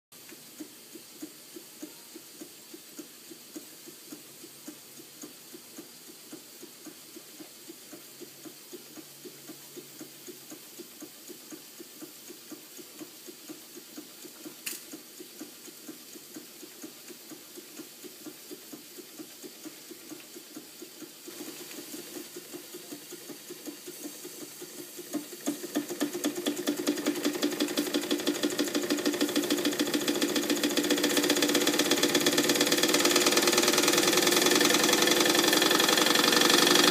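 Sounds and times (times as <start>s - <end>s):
toy steam engine chuffing: 0.6s - 36.9s.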